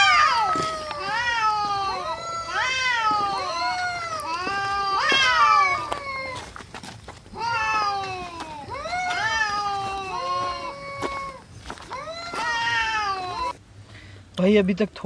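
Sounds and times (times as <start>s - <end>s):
cats meowing and yowling: 0.0s - 6.6s, 7.3s - 13.6s.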